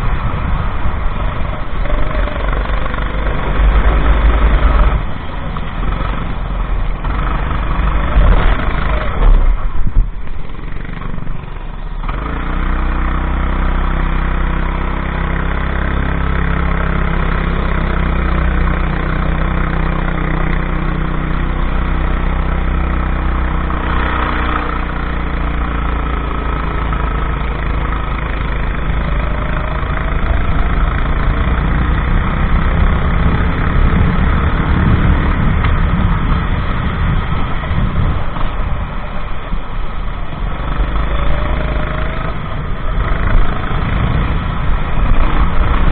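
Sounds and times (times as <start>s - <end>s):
go-kart engine running: 0.0s - 45.9s.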